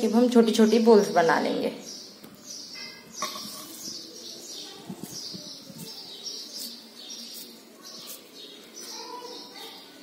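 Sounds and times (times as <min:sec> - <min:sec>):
high chirping: 0:00.6 - 0:09.9.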